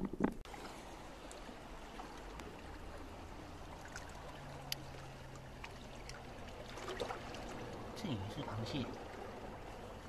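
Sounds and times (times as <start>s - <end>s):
seawater trickling among rocks: 0.5s - 10.0s.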